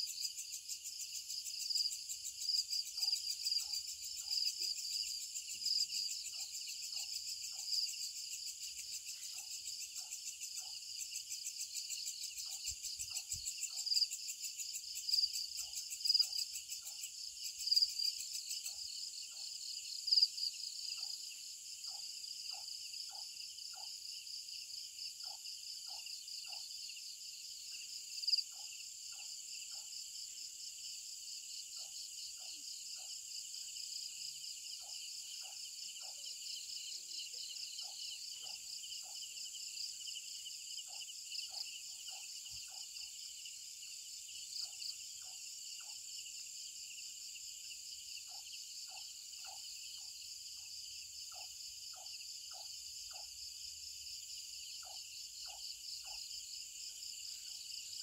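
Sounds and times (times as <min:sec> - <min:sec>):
faint short insect calls: 0:00.0 - 0:58.0.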